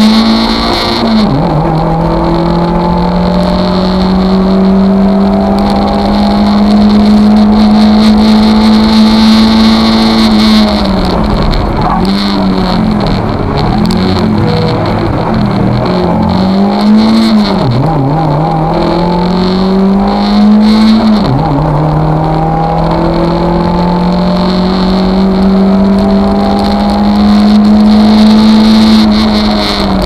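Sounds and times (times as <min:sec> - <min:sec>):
rally car engine under full throttle: 0:00.0 - 0:30.0.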